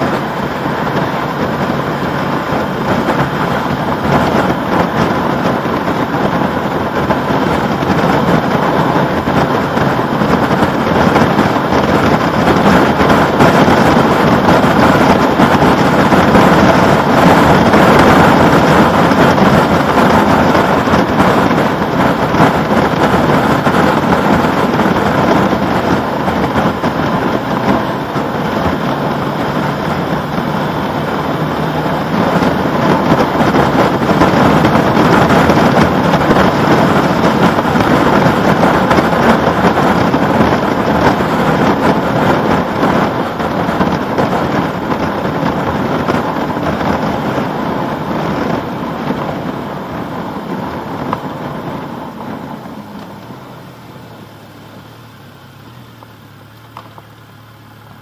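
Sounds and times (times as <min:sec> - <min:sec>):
road noise: 0:00.0 - 0:58.0
wind rushing over microphone: 0:00.0 - 0:58.0.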